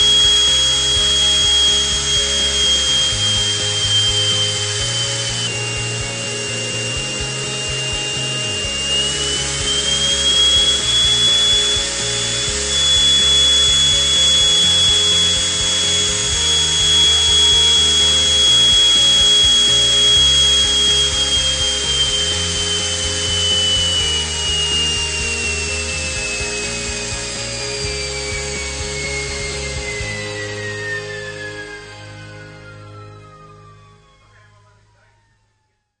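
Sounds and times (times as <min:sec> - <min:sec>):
background music with bass line: 0:00.0 - 0:35.1
jet engine whining: 0:00.0 - 0:35.4.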